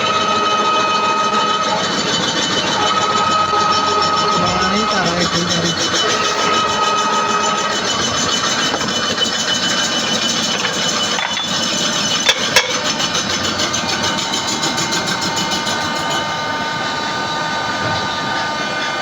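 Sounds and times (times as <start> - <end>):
drill running: 0.0 - 19.0.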